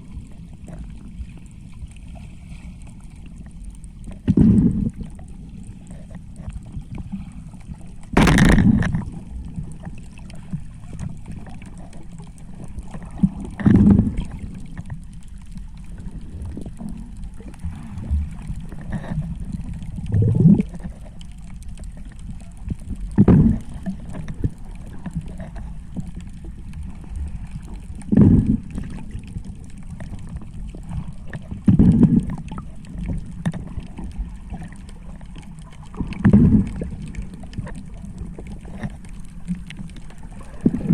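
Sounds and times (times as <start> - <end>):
muffled underwater rumble: 0.0 - 40.9.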